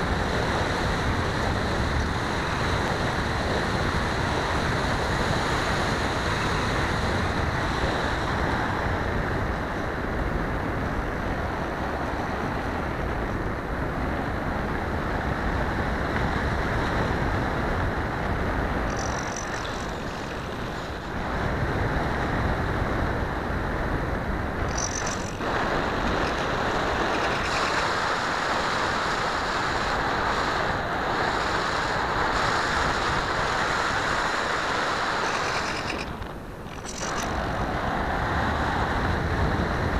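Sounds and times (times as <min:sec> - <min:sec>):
rushing wind on microphone: 0:00.0 - 0:39.9.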